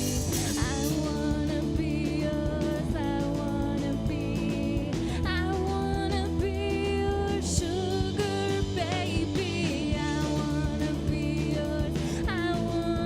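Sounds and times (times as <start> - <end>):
person singing: 0.0 - 13.0
pop-punk band playing live: 0.0 - 13.0.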